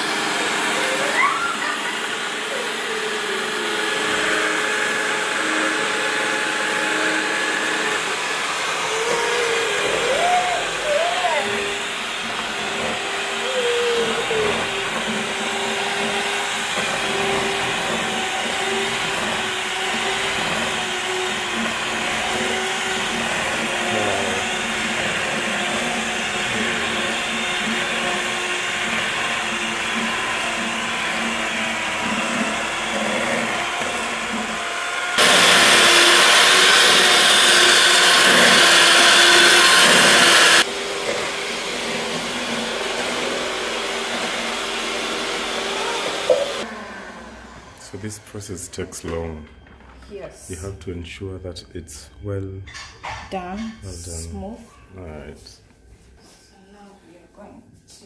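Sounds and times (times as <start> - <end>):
electric hand mixer whisking: 0.0 - 49.4.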